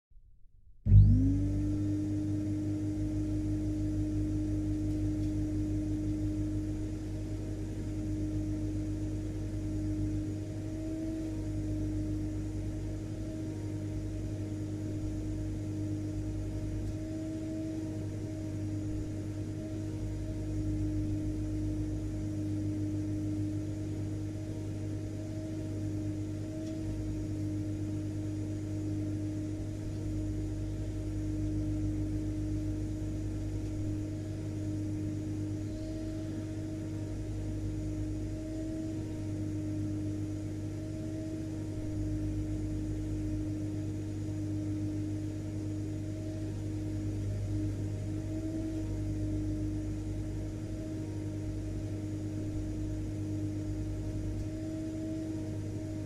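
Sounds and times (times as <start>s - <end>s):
vacuum cleaner motor running: 0.9s - 56.0s.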